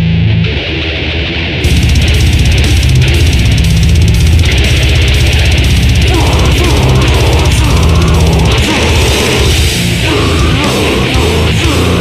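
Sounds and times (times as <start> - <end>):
heavy metal music: 0.0 - 12.0.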